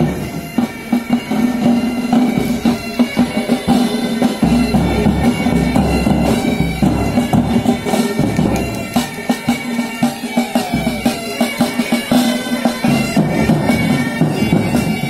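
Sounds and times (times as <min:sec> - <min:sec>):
bagpipes playing: 0:00.0 - 0:15.0
side and bass drums beating: 0:00.0 - 0:15.0.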